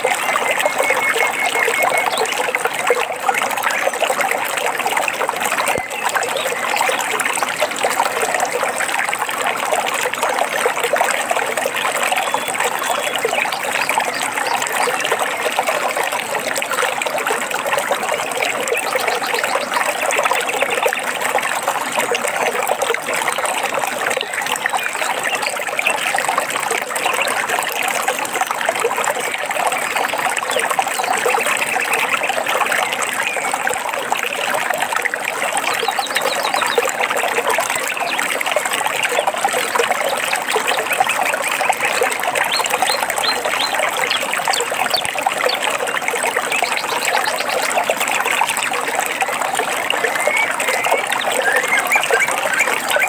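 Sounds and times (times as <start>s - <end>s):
forest stream babbling: 0.0s - 53.0s.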